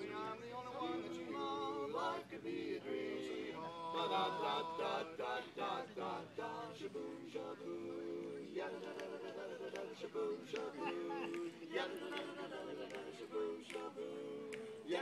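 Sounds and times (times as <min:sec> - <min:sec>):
male quartet singing a cappella: 0:00.0 - 0:15.0.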